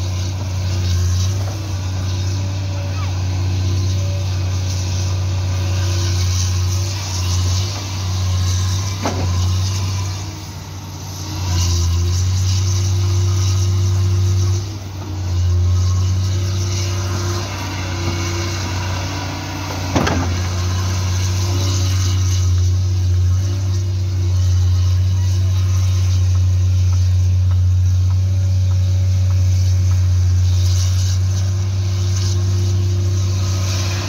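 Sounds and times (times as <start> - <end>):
excavator diesel engine under load: 0.0 - 34.0.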